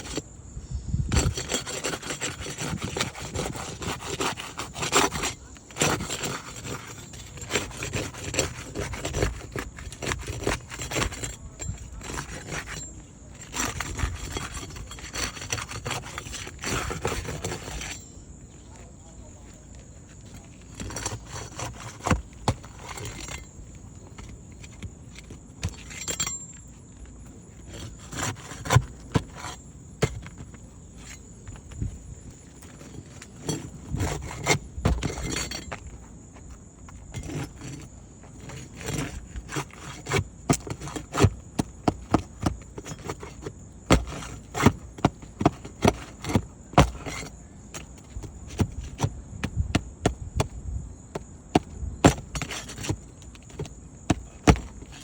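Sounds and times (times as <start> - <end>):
tool prying shingles and nails: 0.0 - 0.2, 1.1 - 18.2, 19.7 - 55.0.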